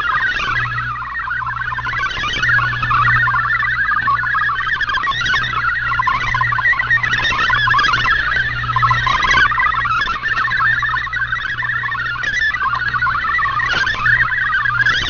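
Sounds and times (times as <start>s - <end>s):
radio data warble: 0.0s - 15.0s
steady low hum: 0.0s - 15.0s.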